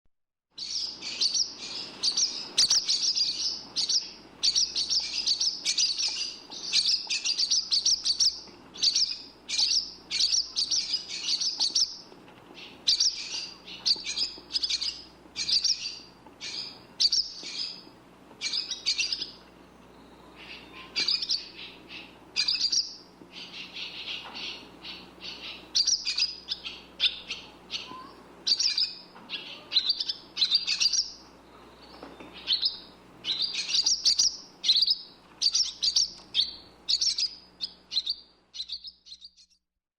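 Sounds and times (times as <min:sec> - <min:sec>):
swallow twittering: 0:00.6 - 0:39.6.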